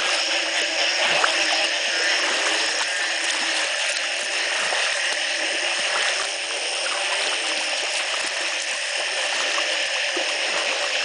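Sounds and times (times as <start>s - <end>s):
chorus of frogs calling: 0.0s - 11.0s.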